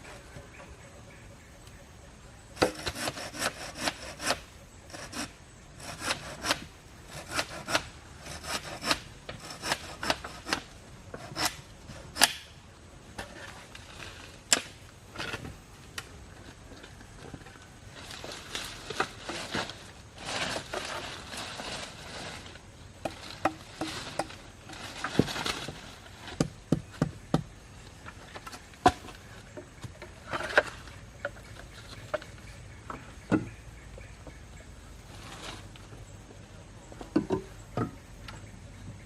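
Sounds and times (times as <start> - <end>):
rustling branches: 0.0 - 39.0.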